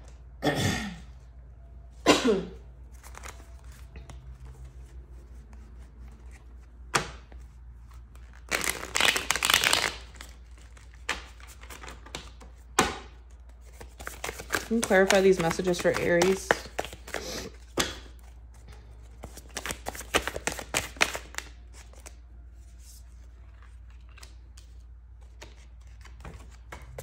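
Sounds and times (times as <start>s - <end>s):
cards being shuffled: 2.9s - 27.0s.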